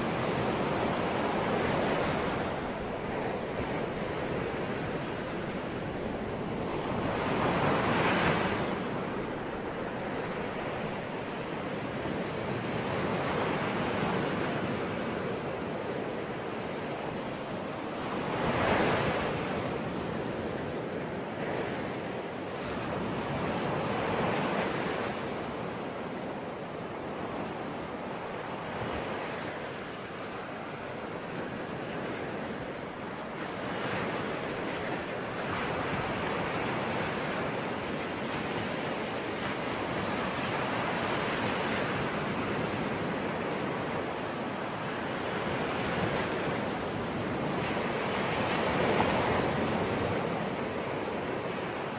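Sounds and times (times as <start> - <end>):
ocean waves breaking on shore: 0.0 - 51.9.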